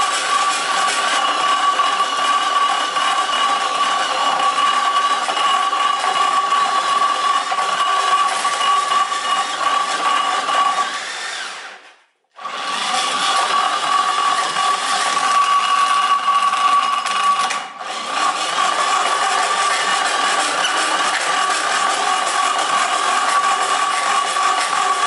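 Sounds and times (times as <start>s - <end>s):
cordless drill whining: 0.0s - 25.0s.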